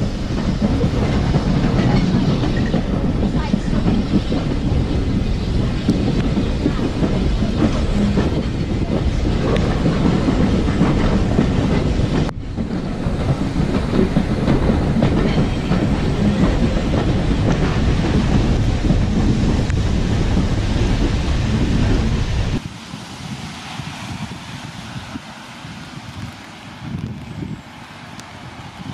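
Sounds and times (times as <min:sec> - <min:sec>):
train running on rails: 0:00.0 - 0:28.9
wind buffeting microphone: 0:00.0 - 0:28.9.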